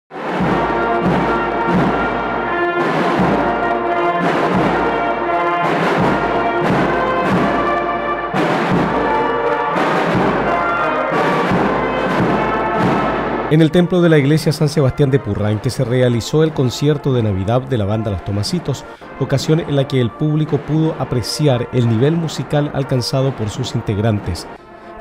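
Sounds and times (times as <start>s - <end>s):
steady drum beat: 0.2s - 24.5s
concert band playing: 0.2s - 24.8s.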